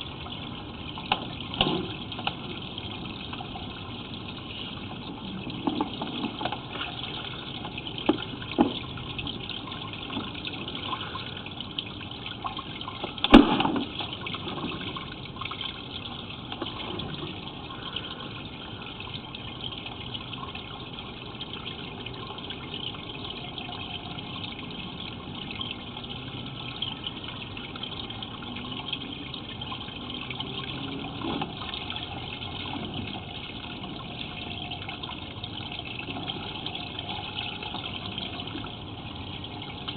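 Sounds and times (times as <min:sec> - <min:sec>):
water rushing in a pipe: 0:00.0 - 0:39.9.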